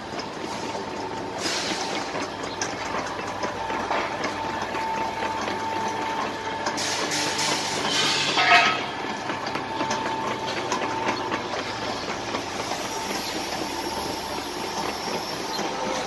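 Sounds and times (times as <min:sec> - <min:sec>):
conveyor belt clattering on rollers: 0:00.0 - 0:16.0.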